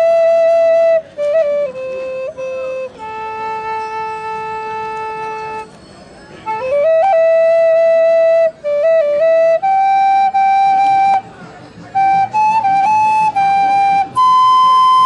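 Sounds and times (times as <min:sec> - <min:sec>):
wooden flute melody: 0:00.0 - 0:15.0.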